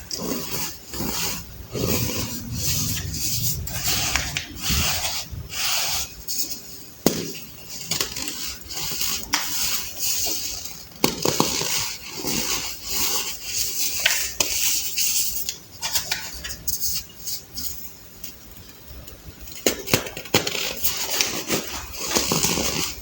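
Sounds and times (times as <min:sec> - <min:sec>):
baking soda crunching: 0:00.0 - 0:17.8, 0:19.4 - 0:23.0.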